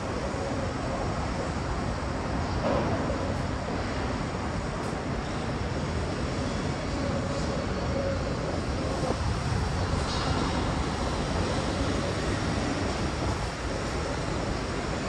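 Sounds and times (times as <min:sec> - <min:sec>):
outdoor city rumble: 0:00.0 - 0:15.0.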